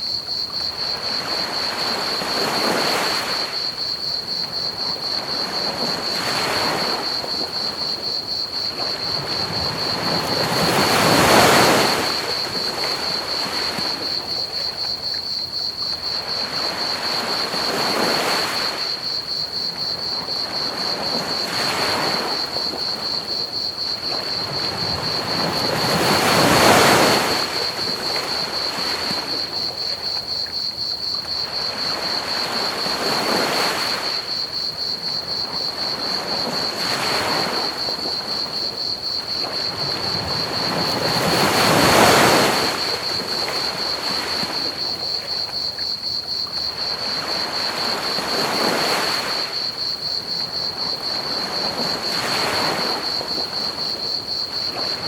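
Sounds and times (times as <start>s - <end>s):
crickets trilling: 0.0s - 55.0s
ocean waves breaking on beach: 0.5s - 55.0s.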